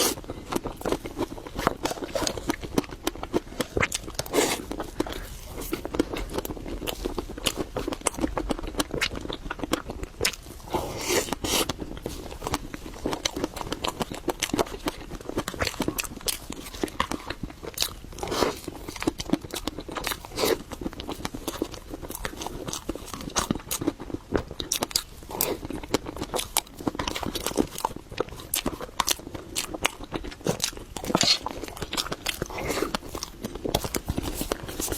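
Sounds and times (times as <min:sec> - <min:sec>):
person chewing cake: 0:00.0 - 0:34.9.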